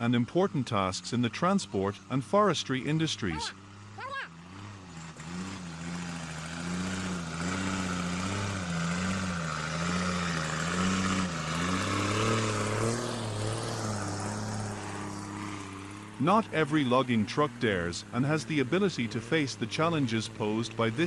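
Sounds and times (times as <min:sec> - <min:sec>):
truck engine wavering: 0:00.0 - 0:21.0.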